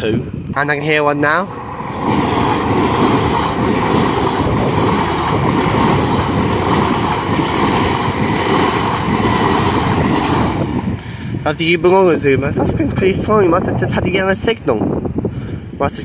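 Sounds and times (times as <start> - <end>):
train wheels rumbling on rail: 0.0 - 14.1.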